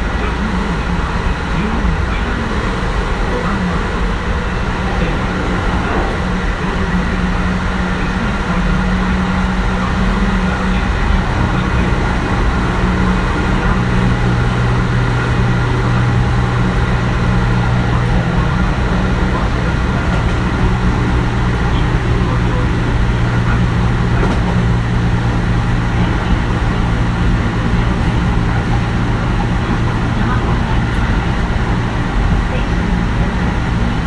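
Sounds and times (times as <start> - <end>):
steady low hum: 0.0 - 34.0
train wheel and rail rumble: 0.0 - 34.0.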